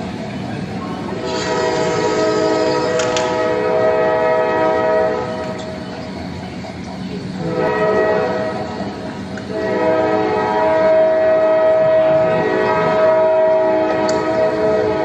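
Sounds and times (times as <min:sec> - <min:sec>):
train rumble: 0:00.0 - 0:15.0
train horn blasts: 0:01.1 - 0:05.8, 0:07.4 - 0:15.0.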